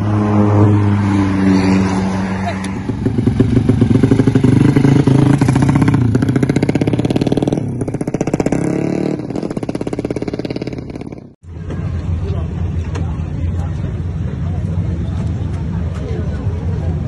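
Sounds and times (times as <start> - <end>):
motorcycle engines revving high: 0.0 - 17.0.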